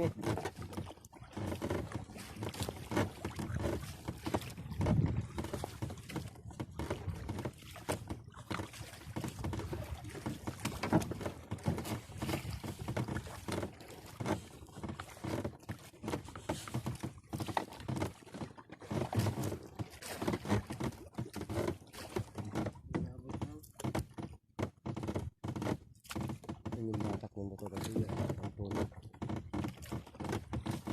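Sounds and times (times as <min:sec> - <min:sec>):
water splashing around boat: 0:00.0 - 0:30.9.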